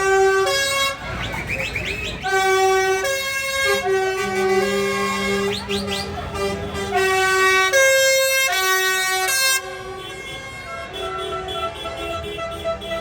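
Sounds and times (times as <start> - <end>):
multi-note horn playing a tune: 0.0 - 1.2, 2.2 - 13.0.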